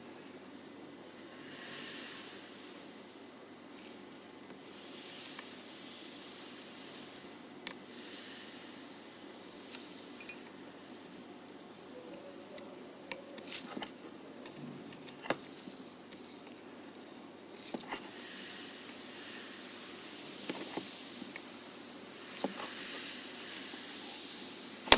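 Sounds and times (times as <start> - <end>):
faint steady hiss: 0.0 - 24.9.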